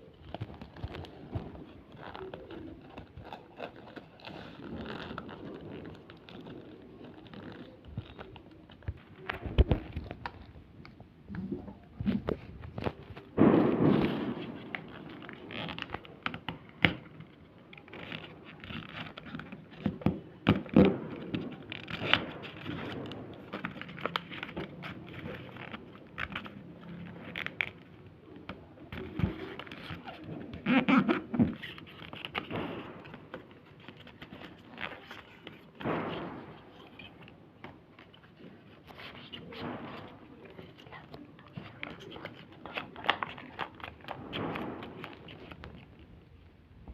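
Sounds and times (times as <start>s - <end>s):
paper crackling: 0.0s - 10.6s, 12.1s - 46.5s.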